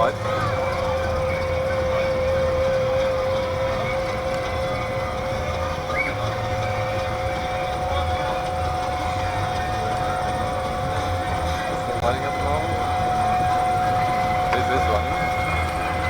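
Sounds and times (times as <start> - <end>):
dynamo whine: 0.0 - 16.0
steam engine low beat: 0.0 - 16.0.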